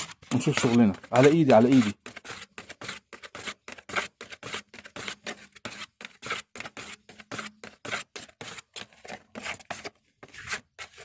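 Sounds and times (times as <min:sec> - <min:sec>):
spreader scraping putty on board: 0:00.0 - 0:11.0.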